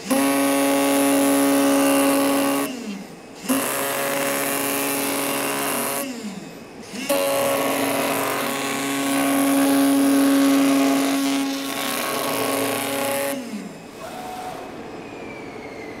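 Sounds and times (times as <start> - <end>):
cutting machine motor hum and hiss: 0.0 - 14.4.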